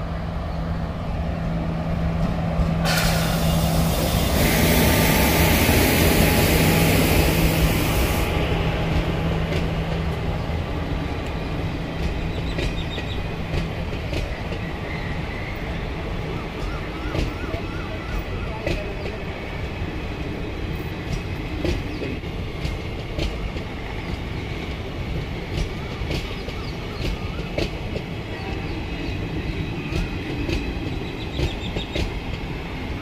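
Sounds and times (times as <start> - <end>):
locomotive passing rush: 0.0 - 33.0.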